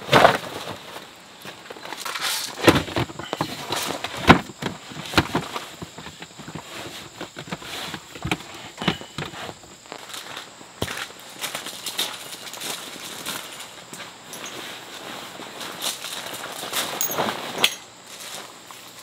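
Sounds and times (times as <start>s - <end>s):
camping gear knocking and clattering: 0.0s - 10.0s, 10.8s - 14.8s, 15.6s - 17.9s
sleeping bags rustling: 0.0s - 19.0s.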